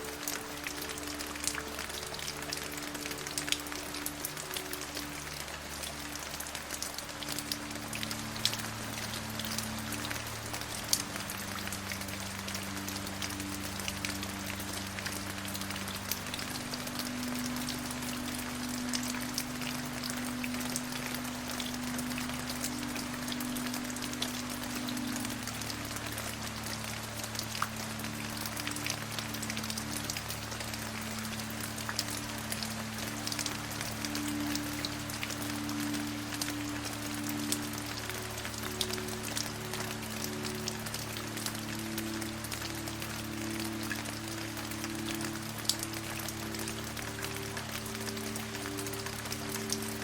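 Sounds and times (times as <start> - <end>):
steady rain: 0.0 - 50.0.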